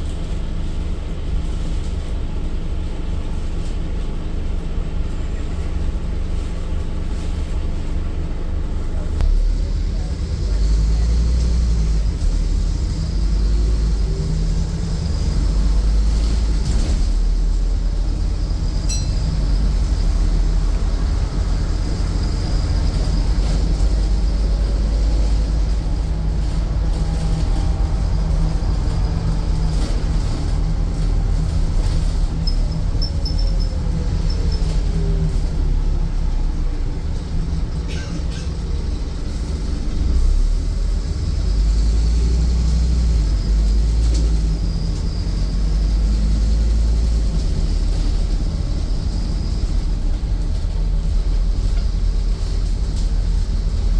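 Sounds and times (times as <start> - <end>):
bus body rattles: 0.0 - 53.9
bus engine drone: 0.0 - 53.9.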